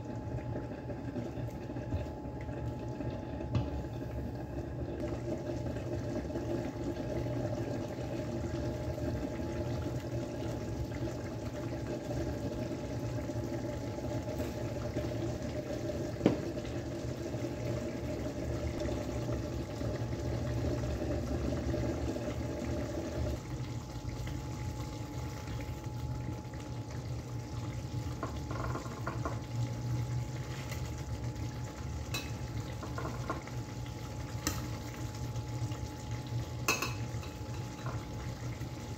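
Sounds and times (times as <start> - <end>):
meat simmering in a pan: 0.0 - 38.9.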